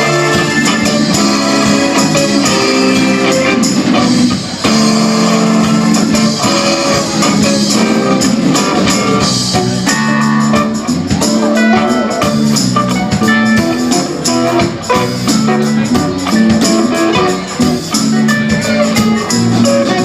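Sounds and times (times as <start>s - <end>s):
guitar: 0.0s - 20.0s
live band playing: 0.0s - 20.0s
percussive beat: 0.0s - 20.0s.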